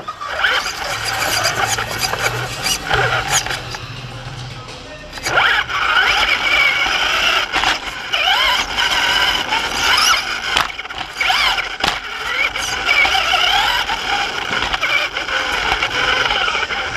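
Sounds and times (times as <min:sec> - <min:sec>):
electric motor whining: 0:00.0 - 0:04.2, 0:05.1 - 0:16.9.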